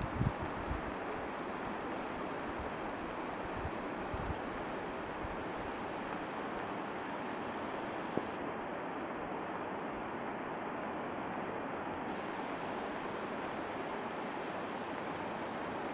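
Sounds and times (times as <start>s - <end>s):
river rushing: 0.0s - 15.9s.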